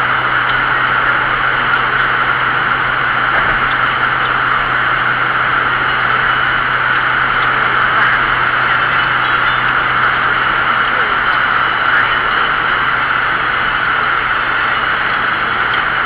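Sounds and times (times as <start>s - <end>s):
vehicle road and wind noise: 0.0s - 16.0s.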